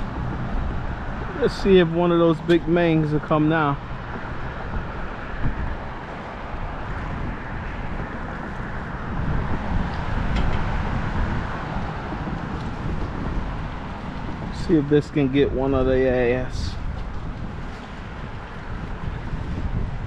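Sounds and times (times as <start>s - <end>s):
road traffic rushing: 0.0s - 20.0s
wind buffeting microphone: 0.0s - 20.0s.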